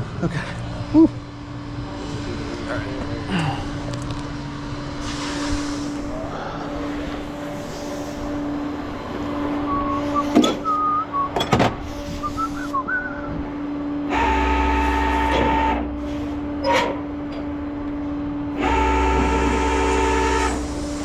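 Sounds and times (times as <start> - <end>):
tow truck engine humming: 0.0 - 21.0
whine with deep rumble: 0.0 - 21.0.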